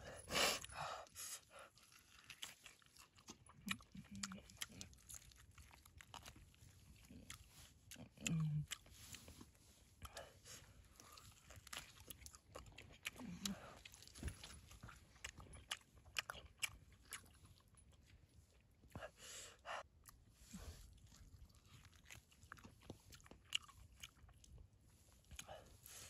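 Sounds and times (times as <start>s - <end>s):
person chewing chicken: 0.3s - 19.1s, 19.8s - 26.0s.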